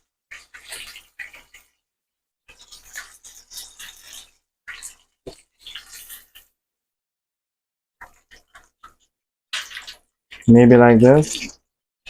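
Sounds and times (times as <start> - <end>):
chicken deep-frying in oil: 0.0 - 6.8, 8.0 - 11.8.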